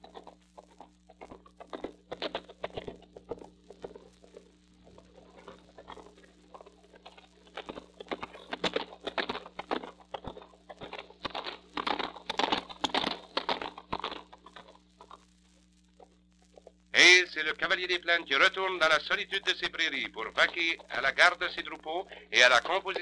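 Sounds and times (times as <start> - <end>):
record crackling and pops: 0.0 - 23.0
steady low hum: 0.0 - 23.0.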